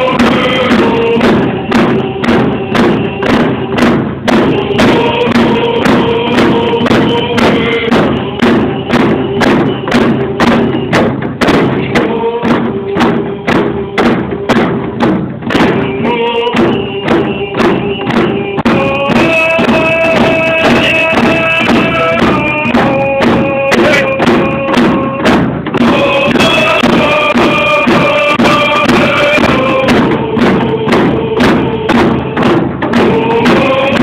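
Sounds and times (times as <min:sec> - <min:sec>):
frame drums beating: 0:00.0 - 0:34.0
group singing long notes: 0:00.0 - 0:34.0.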